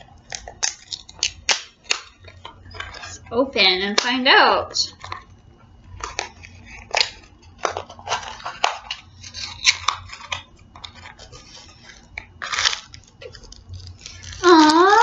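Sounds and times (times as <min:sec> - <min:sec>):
packaging crinkling and tearing: 0:00.0 - 0:03.2, 0:04.9 - 0:15.0.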